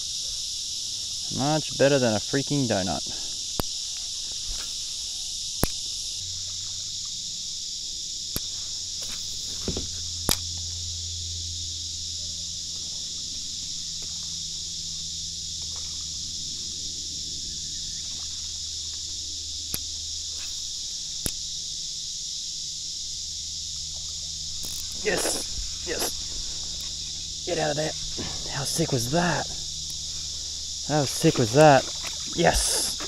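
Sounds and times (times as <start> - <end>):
high-pitched insect chorus: 0.0 - 33.0
low steady hum: 5.7 - 33.0.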